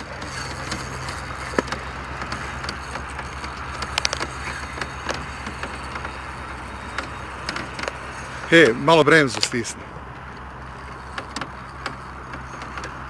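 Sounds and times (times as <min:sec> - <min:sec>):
small boat motor throbbing: 0:00.0 - 0:13.0.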